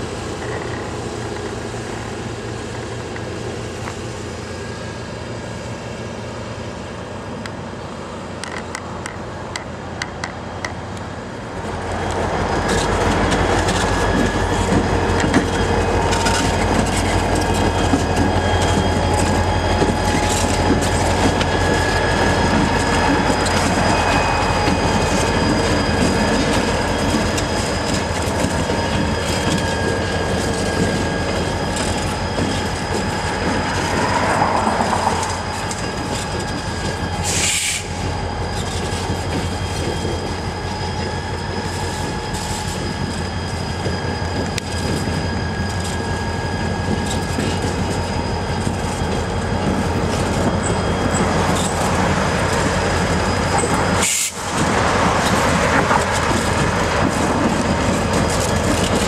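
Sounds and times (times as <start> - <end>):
diesel locomotive engine drone: 0.0 - 59.0
wheels squealing on rails: 8.4 - 59.0.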